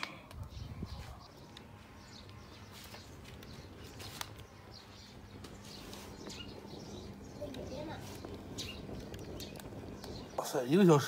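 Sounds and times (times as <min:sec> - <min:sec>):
birds chirping: 0:00.0 - 0:11.0
wood fire crackling: 0:00.0 - 0:11.0.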